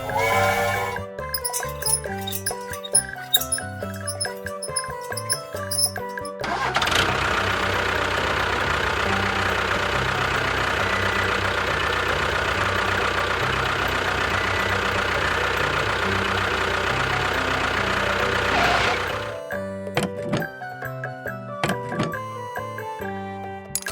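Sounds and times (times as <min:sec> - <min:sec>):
small engine running: 0:00.0 - 0:20.6.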